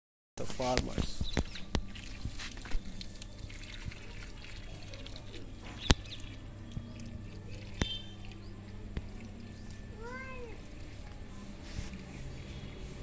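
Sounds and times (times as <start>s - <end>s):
hose water trickling onto soil: 0.4s - 13.0s.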